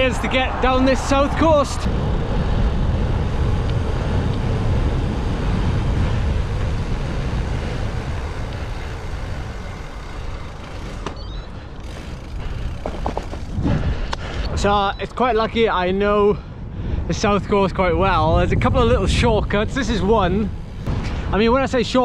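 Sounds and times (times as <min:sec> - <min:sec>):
town traffic and road noise: 0:00.0 - 0:22.0.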